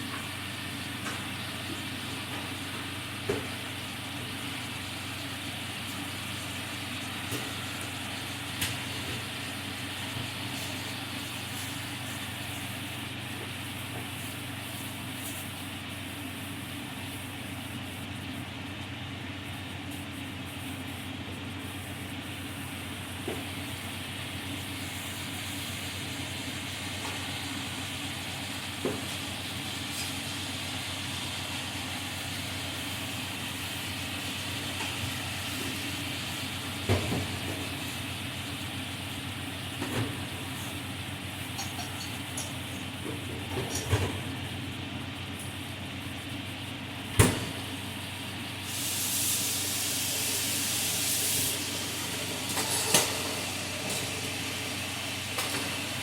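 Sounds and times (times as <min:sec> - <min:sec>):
food sizzling in oil: 0:00.0 - 0:18.5, 0:19.4 - 0:44.7, 0:47.5 - 0:56.0.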